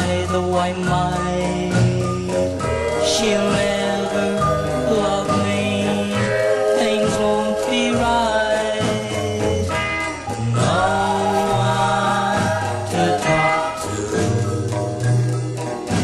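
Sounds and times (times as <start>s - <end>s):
music with held notes and bass: 0.0s - 16.0s.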